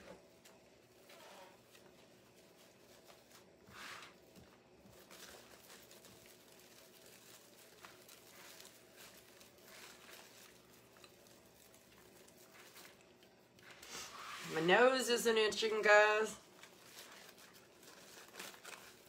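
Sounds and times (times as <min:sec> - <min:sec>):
ribbon and mesh rustling: 0:00.0 - 0:19.0.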